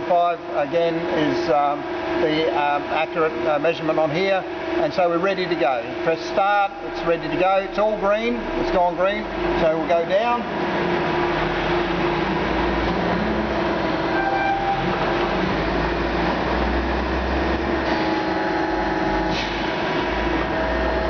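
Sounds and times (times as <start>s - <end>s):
press brake machine humming: 0.0s - 21.0s.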